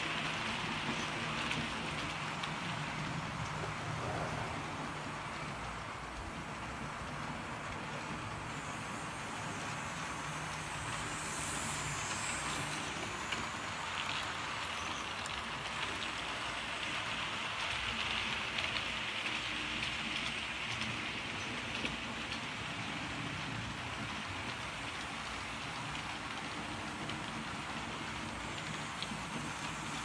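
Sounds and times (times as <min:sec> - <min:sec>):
model train wheels rattling on rail: 0:00.0 - 0:30.0.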